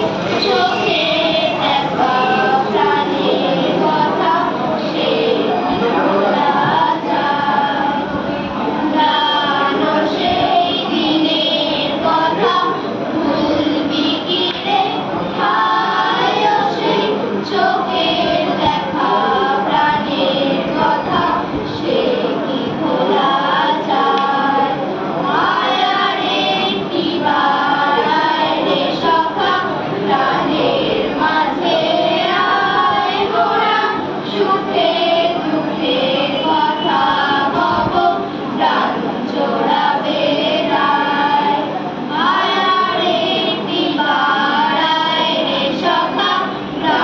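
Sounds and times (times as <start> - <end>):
children singing in chorus: 0.0 - 47.0.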